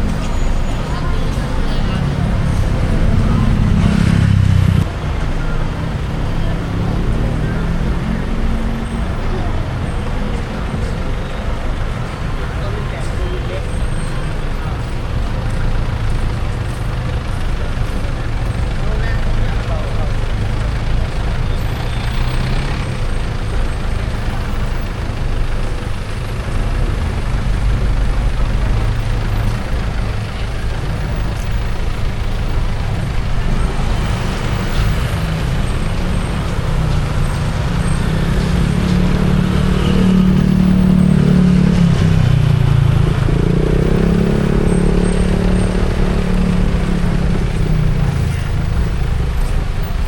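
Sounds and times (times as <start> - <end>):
engine revving as vehicle accelerates: 0.0 - 50.0
road noise: 0.0 - 50.0
vehicle engine rumble: 0.0 - 50.0.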